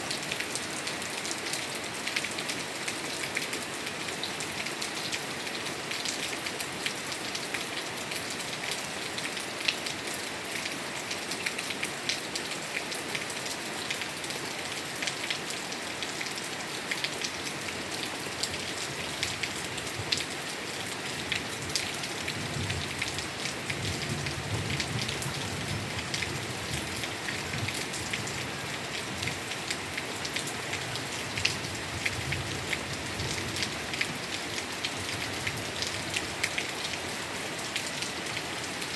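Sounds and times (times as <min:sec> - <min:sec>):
rain drops ticking on surfaces: 0:00.0 - 0:38.9.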